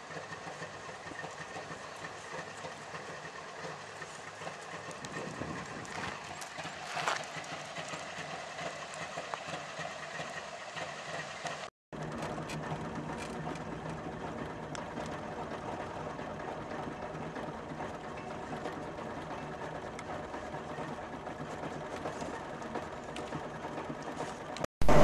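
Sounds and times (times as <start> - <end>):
two-stroke car engine chatter: 0.0 - 25.0.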